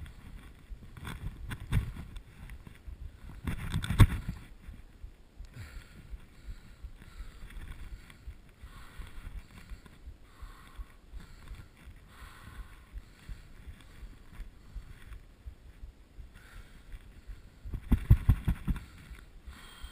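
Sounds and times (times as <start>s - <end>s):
wind rumble on microphone: 0.0s - 19.9s.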